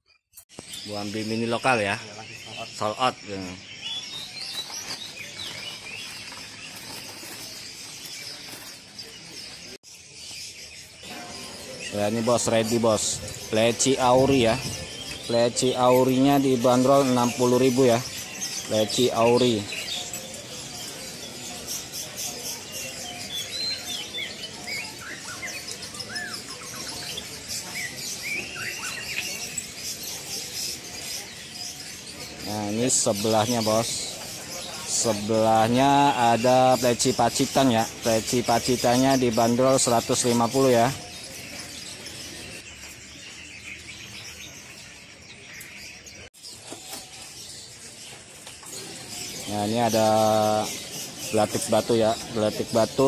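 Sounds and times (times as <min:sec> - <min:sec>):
small songbirds chirping: 0:00.0 - 0:53.0.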